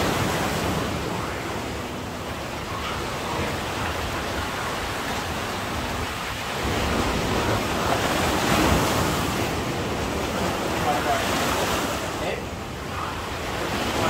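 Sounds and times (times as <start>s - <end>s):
waves breaking on a beach: 0.0s - 14.0s.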